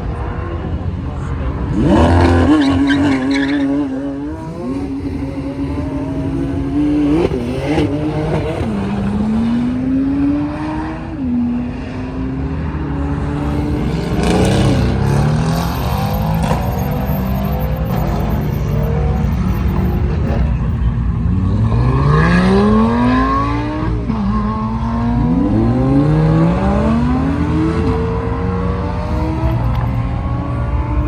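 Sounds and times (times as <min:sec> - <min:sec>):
sports car engine roaring: 0:00.0 - 0:31.0.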